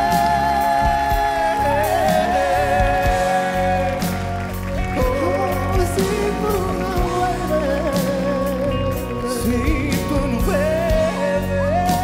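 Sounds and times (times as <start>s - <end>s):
band with drums and bass: 0.0s - 12.0s
man singing with vibrato: 0.0s - 12.0s.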